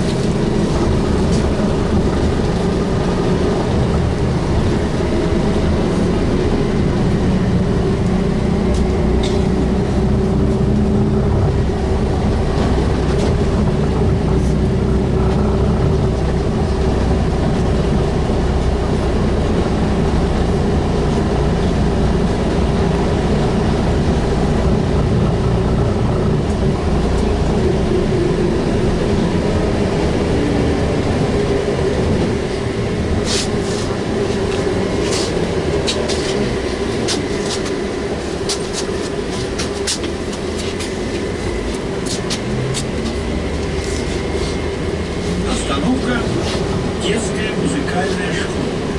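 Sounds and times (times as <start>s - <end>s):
trolleybus running and road noise: 0.0s - 48.9s.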